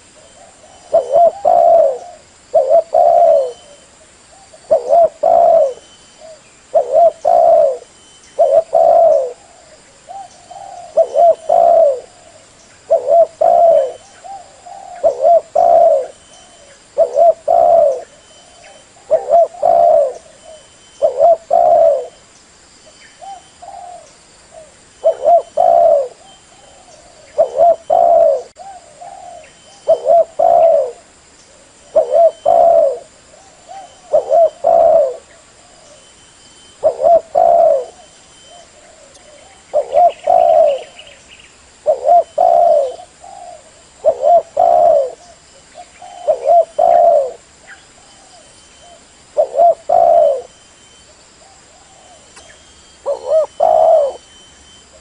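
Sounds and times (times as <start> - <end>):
dove cooing: 0.0 - 22.2, 23.2 - 41.2, 41.8 - 55.0.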